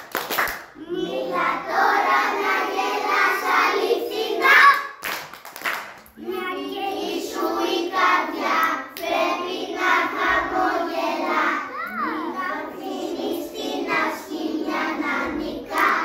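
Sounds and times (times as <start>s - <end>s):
children singing: 0.8s - 4.8s, 6.2s - 16.0s.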